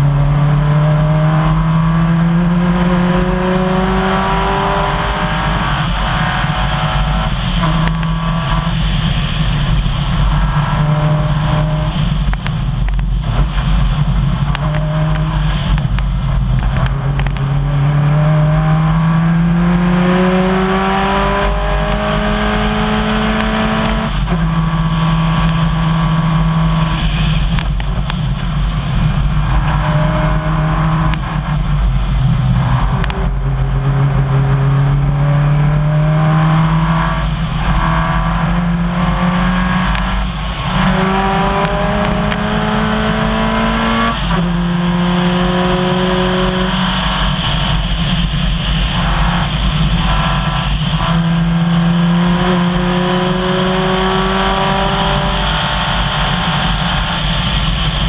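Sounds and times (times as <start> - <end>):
gravel and road noise: 0.0 - 58.0
rally car engine revving: 0.0 - 58.0.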